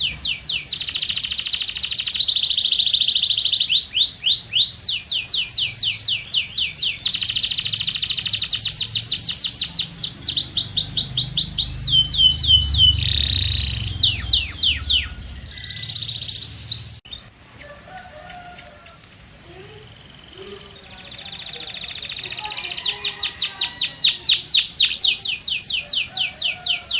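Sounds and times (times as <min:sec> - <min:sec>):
bird chirps: 0:00.0 - 0:26.9
canary singing: 0:00.0 - 0:26.9.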